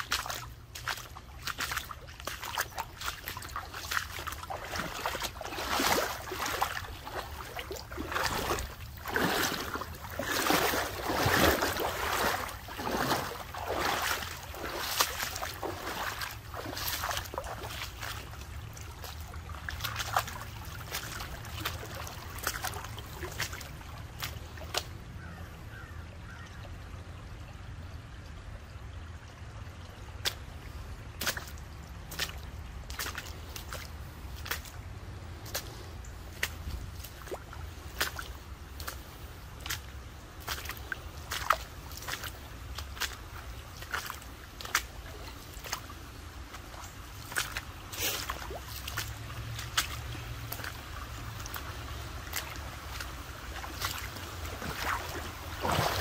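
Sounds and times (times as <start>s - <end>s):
water splashing from wading: 0.0s - 56.0s
water trickling: 0.0s - 56.0s.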